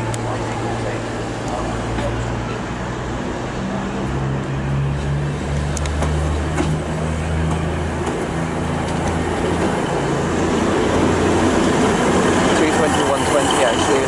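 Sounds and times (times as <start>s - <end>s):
diesel train engine running: 0.0s - 14.0s.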